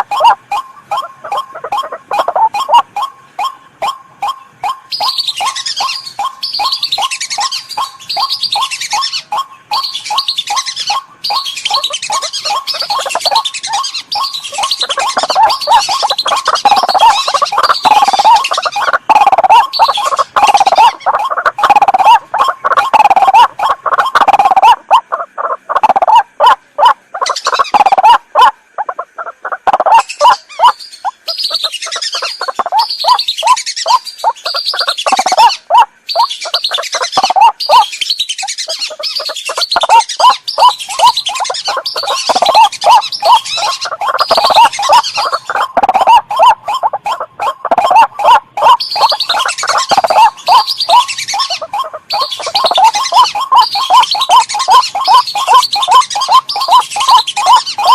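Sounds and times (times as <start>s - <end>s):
fast repeated low bird call: 0.0s - 57.9s.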